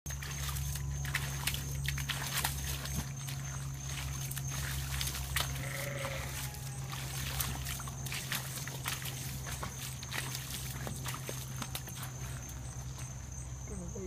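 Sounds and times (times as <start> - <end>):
dog digging in mud: 0.1 - 13.2.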